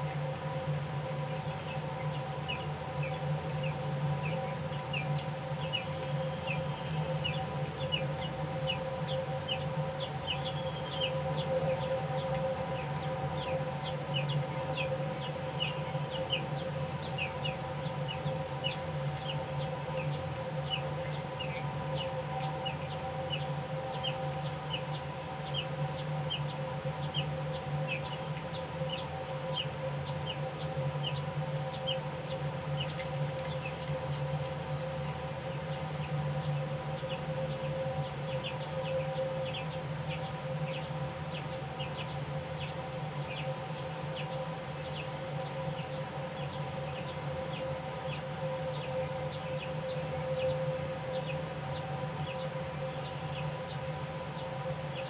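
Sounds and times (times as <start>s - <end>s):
steady low hum: 0.0s - 55.0s
nestlings begging with high chirps: 1.4s - 34.2s, 35.5s - 55.0s.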